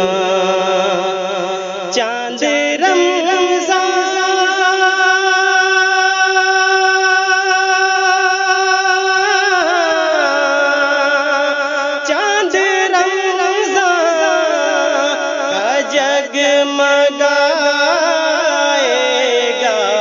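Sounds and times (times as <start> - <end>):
devotional music: 0.0 - 20.0.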